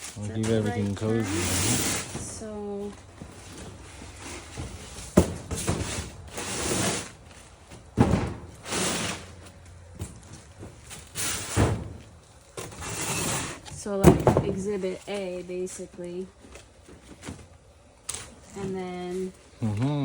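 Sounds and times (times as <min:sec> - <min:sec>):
plastic trays rustling and clattering: 0:00.0 - 0:17.5.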